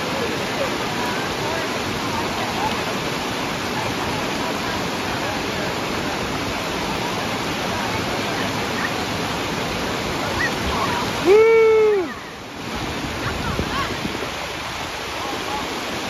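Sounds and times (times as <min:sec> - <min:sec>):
waterfall roar: 0:00.0 - 0:16.0.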